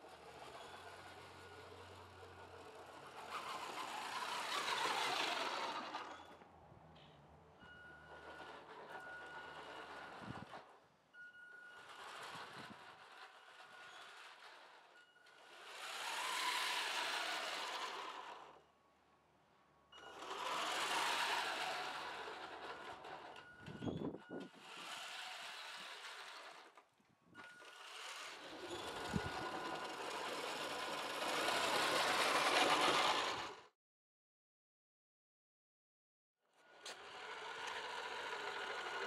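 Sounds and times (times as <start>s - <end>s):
rc truck motor whirring: 0.0s - 6.5s, 7.1s - 18.7s, 19.9s - 33.7s, 36.5s - 39.0s.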